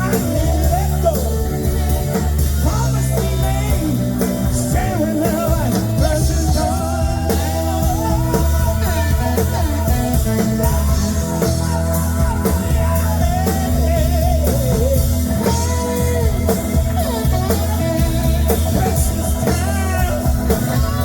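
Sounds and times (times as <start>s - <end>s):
bending lead melody: 0.0s - 21.0s
live band playing: 0.0s - 21.0s.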